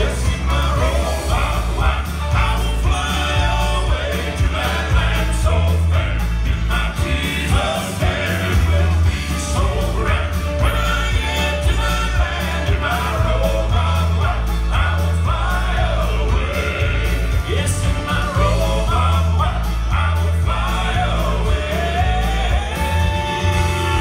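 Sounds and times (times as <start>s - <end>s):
bass line: 0.0s - 24.0s
keyboard accompaniment: 0.0s - 24.0s
male vocal quartet singing: 0.0s - 24.0s.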